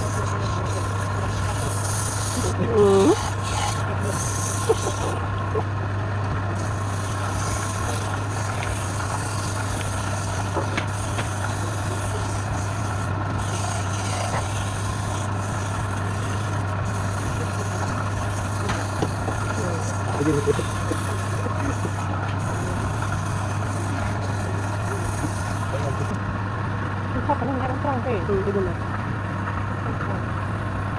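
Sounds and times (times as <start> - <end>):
wood lathe motor humming: 0.0 - 26.3.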